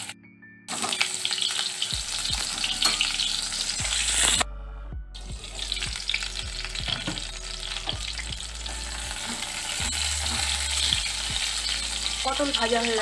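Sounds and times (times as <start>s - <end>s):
vegetables sizzling in oil: 0.7s - 4.4s, 5.4s - 13.0s.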